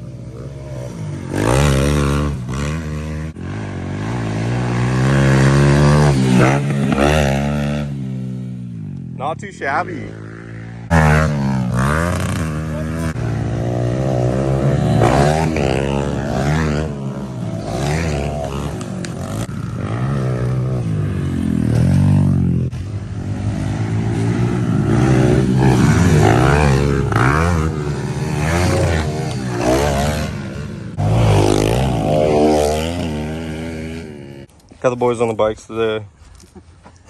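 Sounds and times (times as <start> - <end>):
pit bike engines revving: 0.0 - 37.0.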